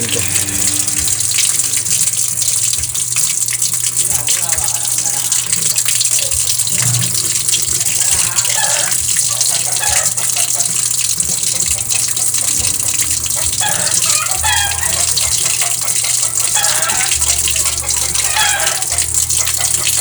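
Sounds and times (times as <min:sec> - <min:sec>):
water filling washing machine: 0:00.0 - 0:20.0.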